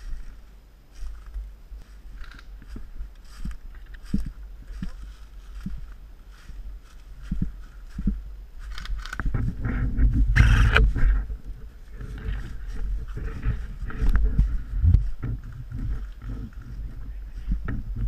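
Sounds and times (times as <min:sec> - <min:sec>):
footsteps through undergrowth: 0:00.0 - 0:18.0
camera jostling rumble: 0:01.0 - 0:18.0.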